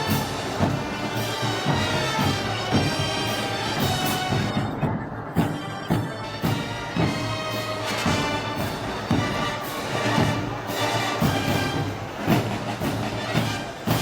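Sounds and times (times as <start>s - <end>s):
brass band playing: 0.0s - 14.0s
steady drum beat: 0.0s - 14.0s.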